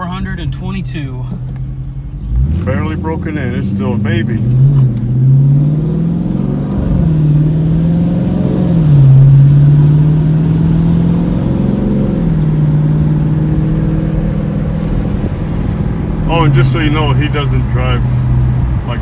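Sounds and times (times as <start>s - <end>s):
car engine while driving: 0.0s - 19.0s.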